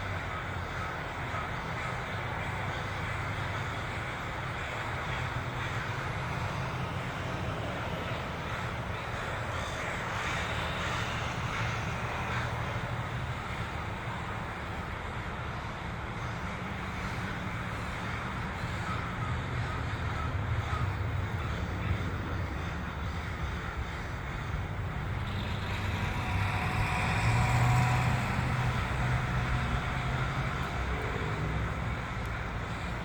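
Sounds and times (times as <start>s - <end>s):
crows cawing: 0.0s - 14.8s, 16.2s - 33.0s.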